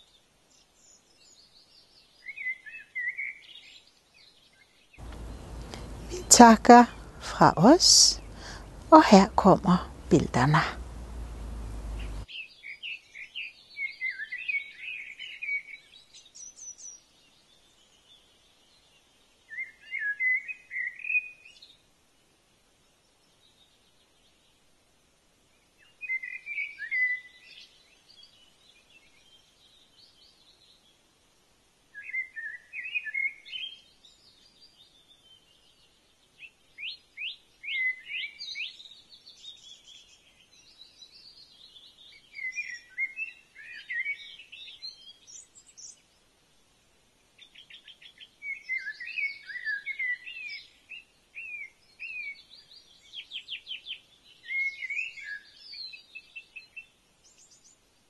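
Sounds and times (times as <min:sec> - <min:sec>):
songbird singing: 0:00.0 - 0:21.9, 0:25.5 - 0:31.1, 0:31.9 - 0:58.0.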